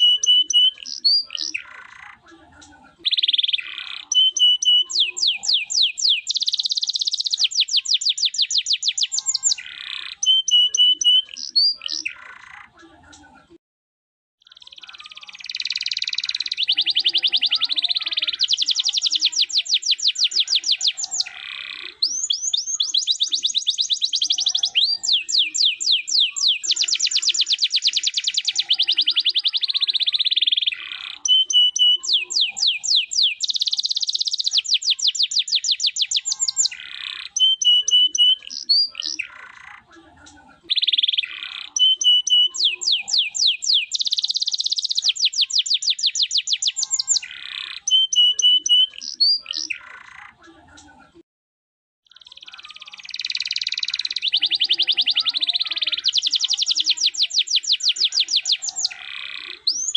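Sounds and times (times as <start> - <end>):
canary singing: 0.0 - 12.8, 14.4 - 50.6, 52.0 - 59.9.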